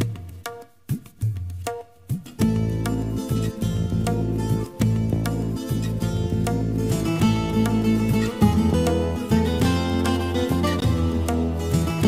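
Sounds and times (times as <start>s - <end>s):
plucked string melody: 1.7s - 12.0s.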